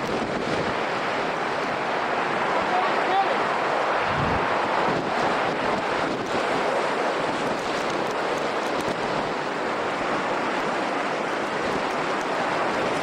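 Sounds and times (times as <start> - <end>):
heavy ocean surf: 0.0 - 13.0
storm wind rushing: 0.0 - 13.0.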